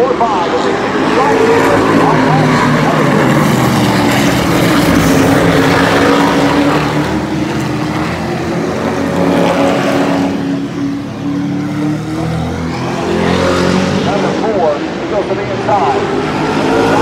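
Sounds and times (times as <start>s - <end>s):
trucks racing past: 0.0s - 17.0s.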